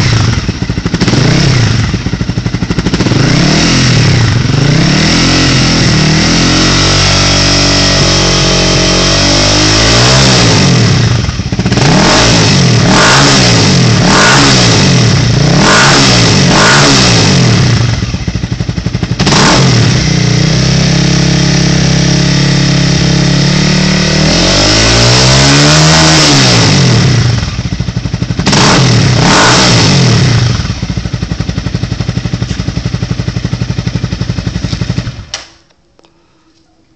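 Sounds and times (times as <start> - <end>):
motorcycle engine revving: 0.0 - 35.4.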